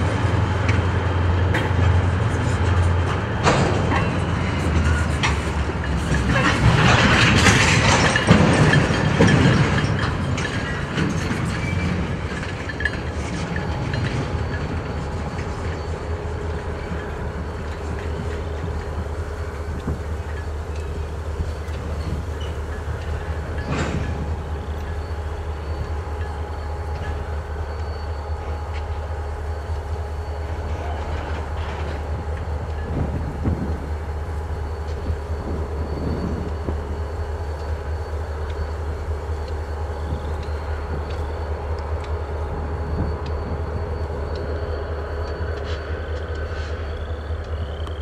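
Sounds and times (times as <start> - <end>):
freight train low drone: 0.0 - 48.0
train cars knocking and clanking: 0.0 - 48.0.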